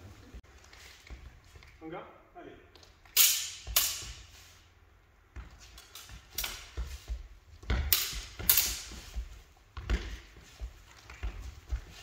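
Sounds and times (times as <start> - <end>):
footwork on hall floor: 0.0 - 1.9, 2.6 - 12.0.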